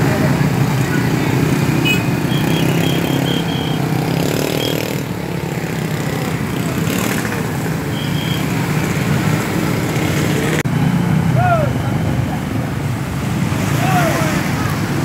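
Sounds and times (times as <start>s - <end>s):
scooter and car engines in traffic: 0.0s - 15.0s.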